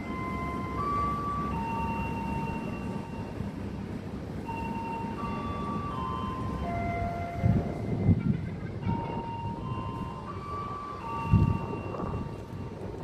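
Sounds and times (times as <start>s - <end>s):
chime-like slow tune: 0.0s - 3.4s, 4.4s - 12.8s.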